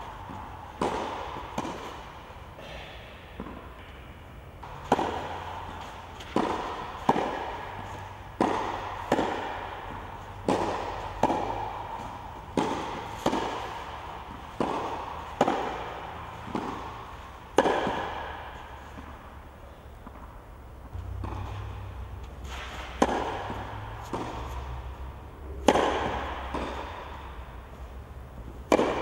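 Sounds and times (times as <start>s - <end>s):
tennis racket hitting ball: 0.0s - 29.0s.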